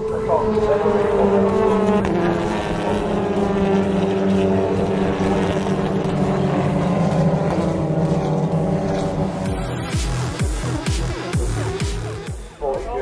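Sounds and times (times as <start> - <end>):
racing cars passing at high revs: 0.0 - 12.4.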